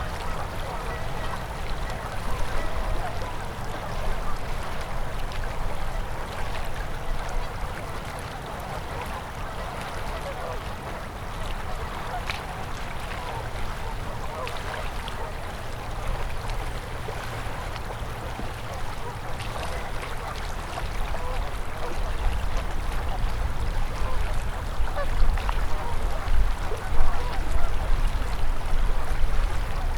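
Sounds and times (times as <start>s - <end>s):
river water flowing over ice: 0.0s - 29.9s.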